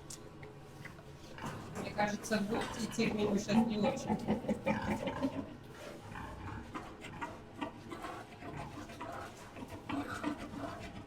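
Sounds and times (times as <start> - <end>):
wild boar grunting and huffing: 1.2 - 11.0.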